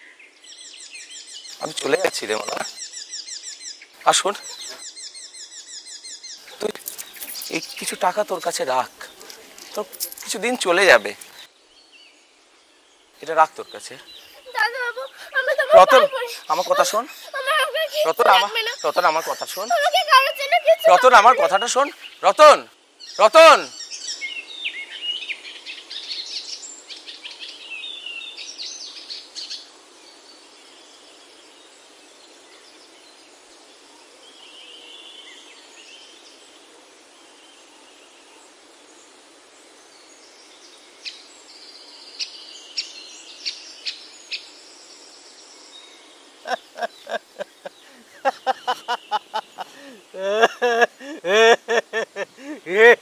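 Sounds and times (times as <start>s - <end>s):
birds chirping: 0.0s - 53.0s
steady background hiss: 0.0s - 53.0s.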